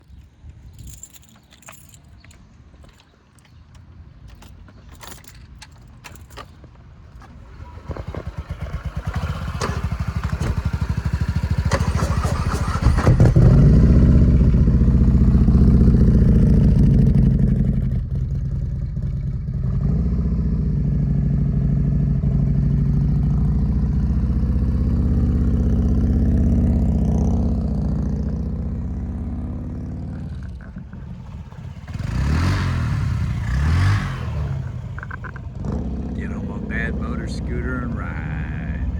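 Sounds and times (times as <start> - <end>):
motorcycle engine rumbling and revving: 0.1 - 38.9.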